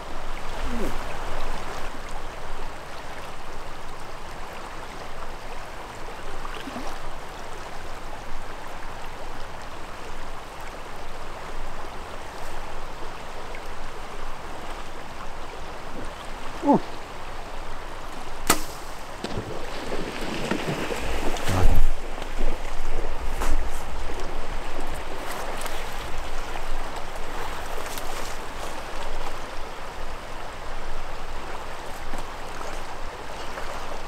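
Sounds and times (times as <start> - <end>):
shallow river flowing: 0.0 - 34.0.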